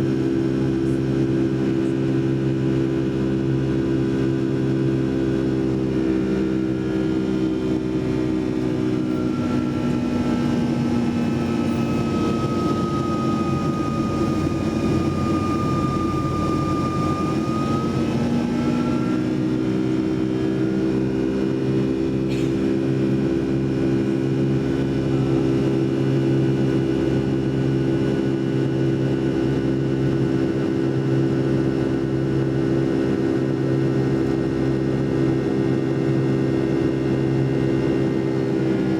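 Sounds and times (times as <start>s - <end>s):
high engine whine: 0.0s - 38.9s
jet engines droning: 0.0s - 38.9s.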